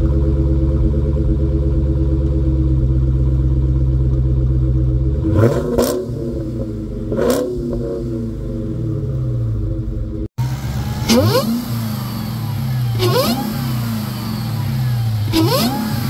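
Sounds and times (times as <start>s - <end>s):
car engine idling: 0.0s - 16.0s
engine throttle blips: 0.0s - 16.0s.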